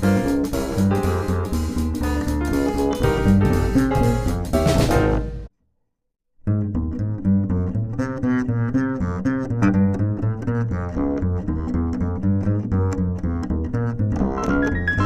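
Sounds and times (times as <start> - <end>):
double bass playing: 0.0 - 5.5, 6.4 - 15.0.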